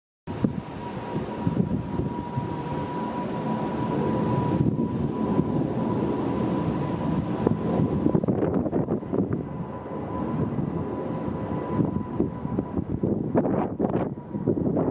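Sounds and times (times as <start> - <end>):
jet engine whine: 0.3 - 14.9
jet engines rumbling: 0.3 - 14.9.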